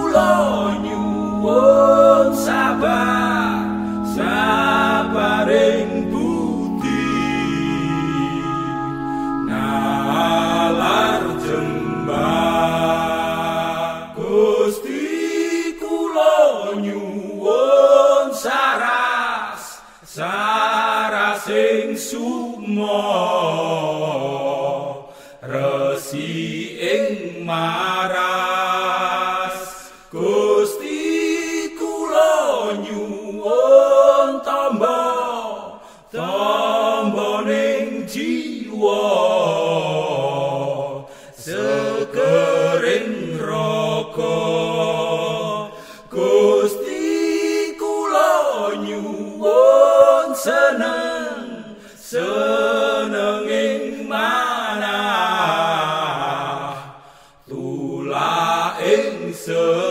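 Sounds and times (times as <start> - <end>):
person chanting: 0.0 - 59.9.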